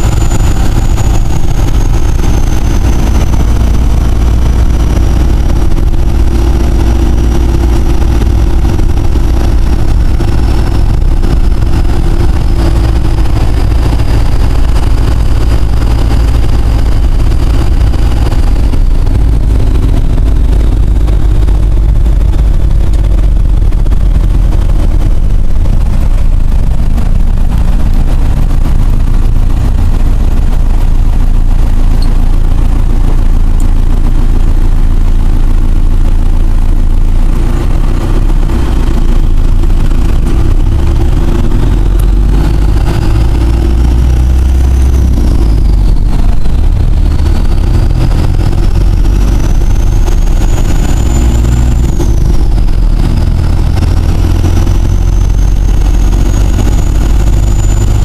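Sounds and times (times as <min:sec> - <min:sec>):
diesel engine running: 0:00.0 - 0:58.0
turbocharger whine: 0:00.0 - 0:58.0.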